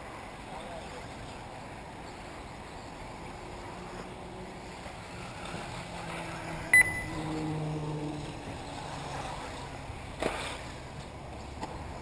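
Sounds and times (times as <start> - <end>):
rc car motor whine and tyre noise: 0.0 - 12.0.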